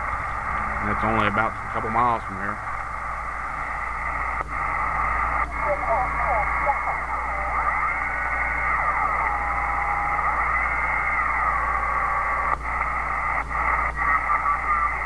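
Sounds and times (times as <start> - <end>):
low hum: 0.0 - 15.0
radio static hiss: 0.0 - 15.0.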